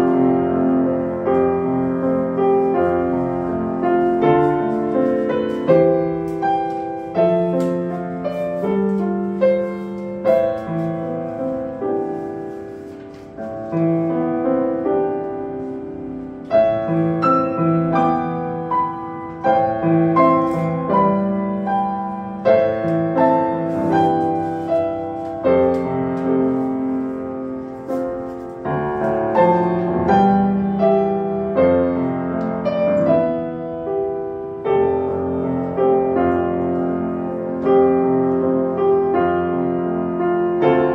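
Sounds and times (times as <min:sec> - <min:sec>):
grand piano piece: 0:00.0 - 0:40.9.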